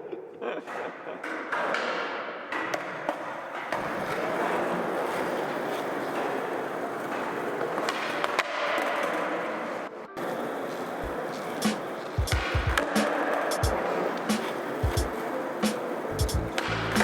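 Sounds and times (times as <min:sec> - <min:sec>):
skateboard clacks: 0:00.0 - 0:17.0
skateboard wheels rolling on concrete: 0:00.0 - 0:17.0.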